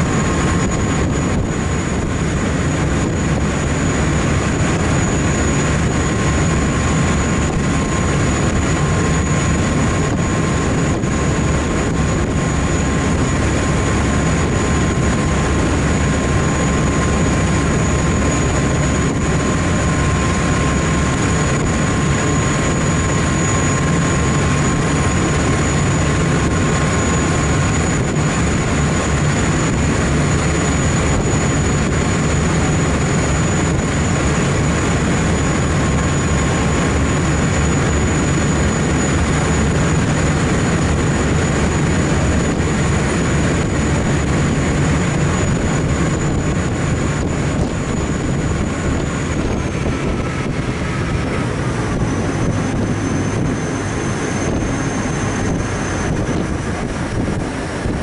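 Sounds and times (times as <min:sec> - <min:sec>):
low boat engine rumble: 0:00.0 - 0:58.0
thin high whine: 0:00.0 - 0:58.0
water rushing along hull: 0:00.0 - 0:58.0.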